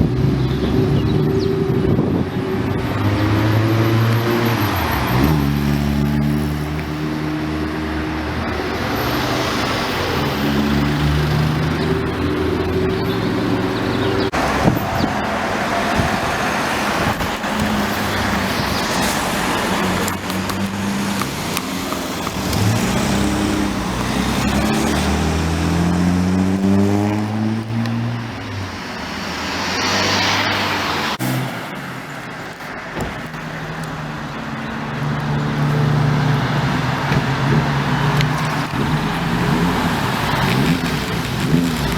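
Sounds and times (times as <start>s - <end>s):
cars accelerating past: 0.0s - 41.9s
steady traffic noise: 0.0s - 41.9s.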